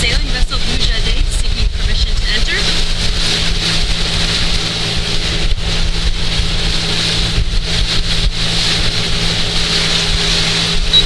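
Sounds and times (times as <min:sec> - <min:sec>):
boat engine droning: 0:00.0 - 0:11.0
hiss of wind and water: 0:00.0 - 0:11.0.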